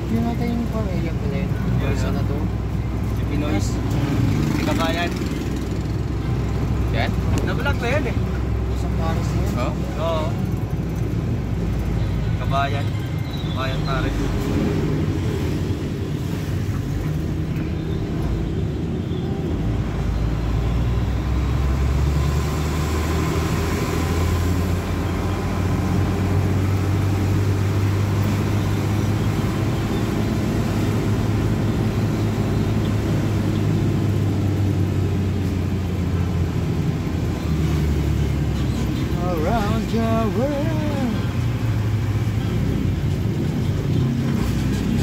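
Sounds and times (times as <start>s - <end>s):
car engine drone: 0.0s - 45.0s
road noise: 0.0s - 45.0s.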